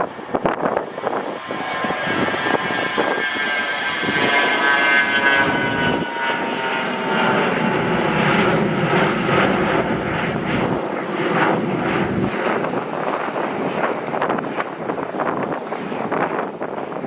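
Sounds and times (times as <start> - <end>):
airliner engine whine: 0.0 - 17.0
wind buffeting microphone: 0.0 - 17.0.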